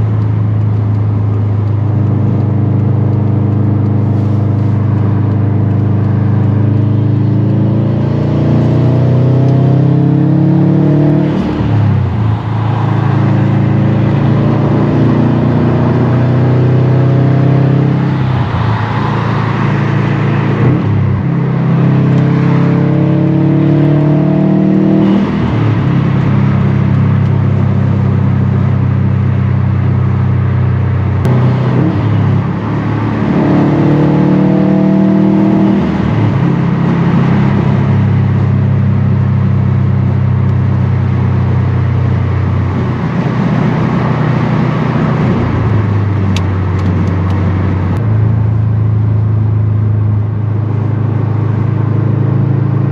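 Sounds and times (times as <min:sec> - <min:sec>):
car engine accelerating through gears: 0:00.0 - 0:52.9.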